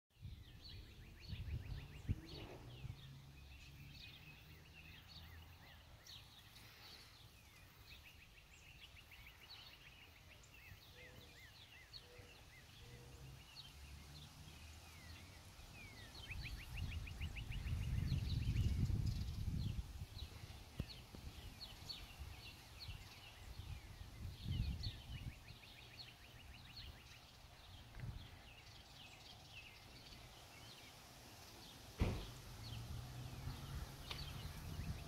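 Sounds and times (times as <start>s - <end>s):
songbirds chirping and singing: 0.2s - 35.0s.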